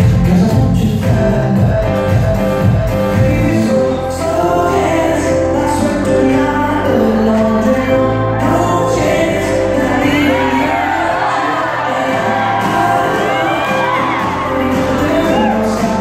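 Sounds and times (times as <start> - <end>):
song with singer over sound system: 0.0 - 16.0.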